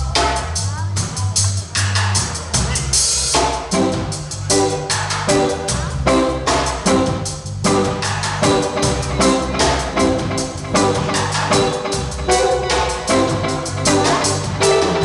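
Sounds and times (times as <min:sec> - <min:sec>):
bass and repeated chords: 0:00.0 - 0:15.0
drum kit steady beat: 0:00.0 - 0:15.0.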